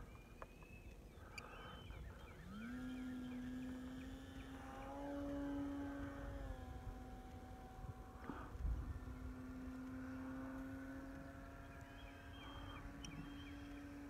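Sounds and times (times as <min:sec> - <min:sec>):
model airplane motor buzzing: 0:00.0 - 0:14.0.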